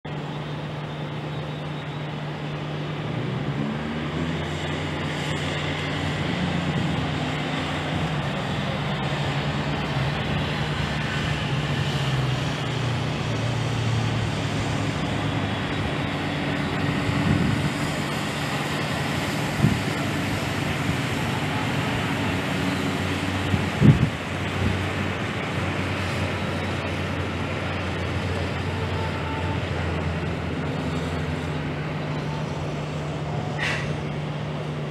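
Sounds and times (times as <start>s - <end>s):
low engine hum: 0.0s - 34.9s
vehicles passing: 0.0s - 34.9s.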